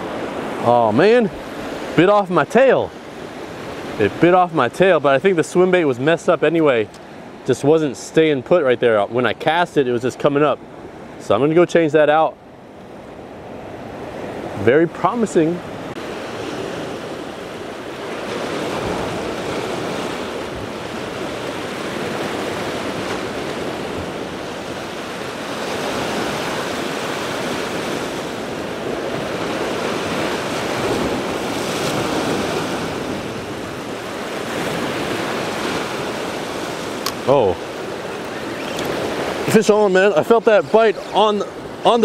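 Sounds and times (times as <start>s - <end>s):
ocean surf breaking on rocks: 0.0s - 42.0s.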